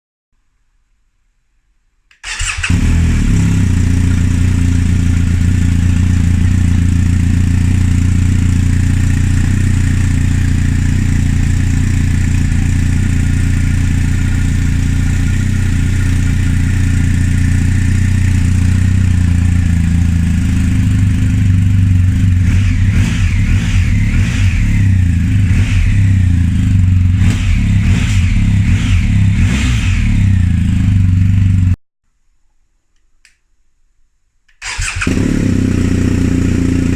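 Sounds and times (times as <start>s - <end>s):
motorcycle engine starting and idling: 2.1s - 31.8s, 34.5s - 36.9s
motorcycle engine revving: 2.2s - 31.8s, 34.6s - 36.9s.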